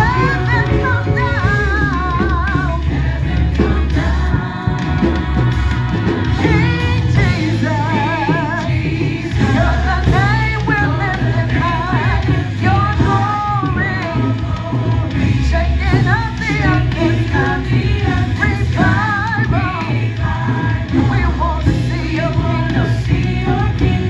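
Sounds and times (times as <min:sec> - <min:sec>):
band with bass and drums: 0:00.0 - 0:24.0
person singing with vibrato: 0:00.0 - 0:24.0.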